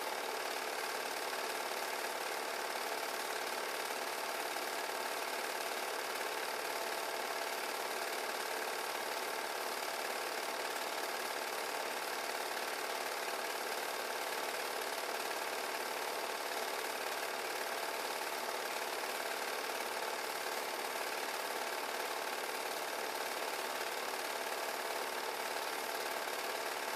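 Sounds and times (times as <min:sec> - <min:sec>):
film projector running: 0:00.0 - 0:26.9.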